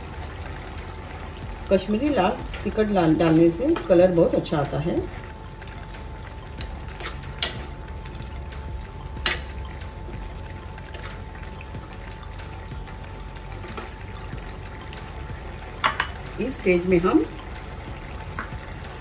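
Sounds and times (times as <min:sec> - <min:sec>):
curry bubbling in a pan: 0:00.0 - 0:19.0.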